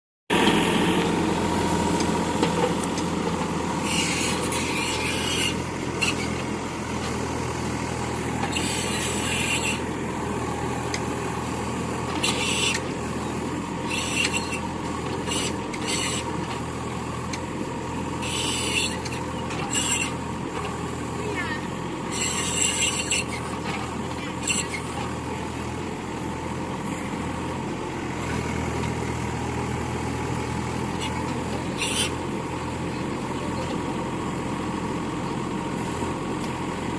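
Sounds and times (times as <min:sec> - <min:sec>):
diesel engine running: 0:00.3 - 0:36.9.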